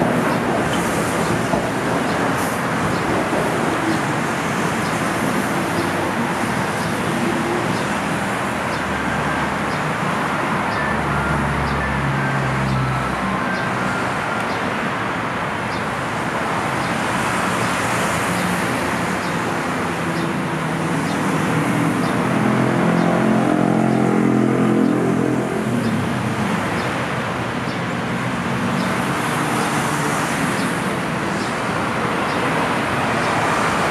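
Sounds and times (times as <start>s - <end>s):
road traffic noise: 0.0s - 33.9s.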